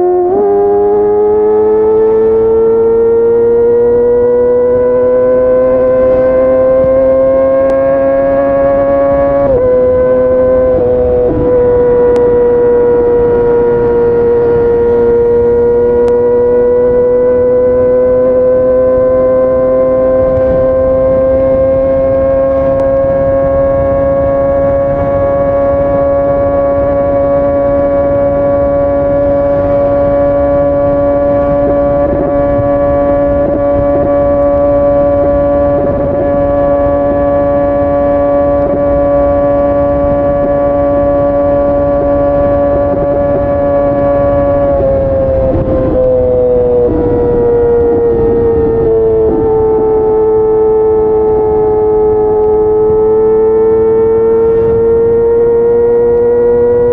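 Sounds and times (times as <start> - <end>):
motorcycle engine at high revs: 0.0 - 56.9.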